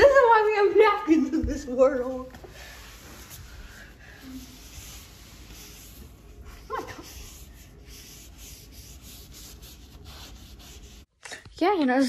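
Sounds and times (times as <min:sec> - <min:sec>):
napkin rubbing floor: 0:01.2 - 0:11.1.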